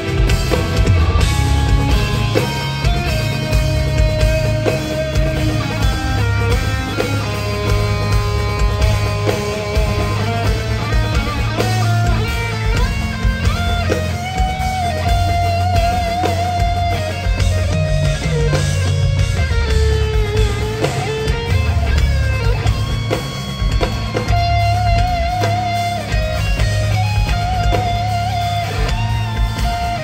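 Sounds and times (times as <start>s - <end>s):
busy drums: 0.0s - 30.0s
distorted electric guitar lead: 0.0s - 30.0s
heavy low guitar and bass: 0.0s - 30.0s.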